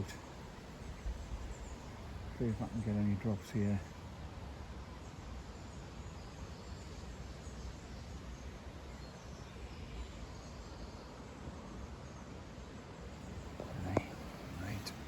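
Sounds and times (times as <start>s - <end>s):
distant bird calls: 0.0s - 11.8s, 13.0s - 15.0s
low background hiss and rumble: 0.0s - 15.0s.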